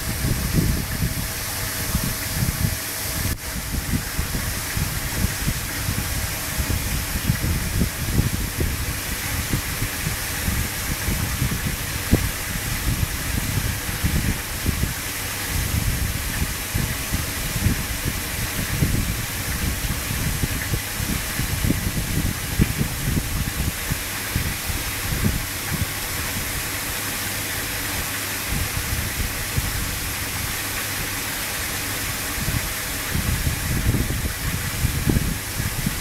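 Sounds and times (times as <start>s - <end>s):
low water rumble: 0.0s - 36.0s
water rushing hiss: 0.0s - 36.0s.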